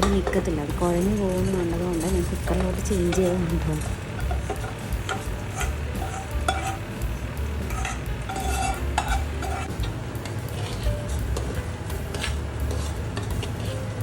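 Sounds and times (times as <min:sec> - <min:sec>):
spoon scraping metal pot: 0:01.2 - 0:06.9, 0:07.6 - 0:13.9.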